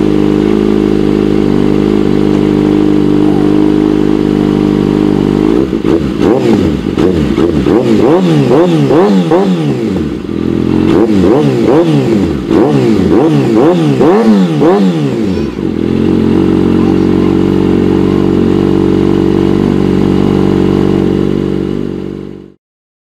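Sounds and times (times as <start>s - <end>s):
motorcycle engine idling: 0.0s - 22.6s
motorcycle engine revving: 0.0s - 22.6s.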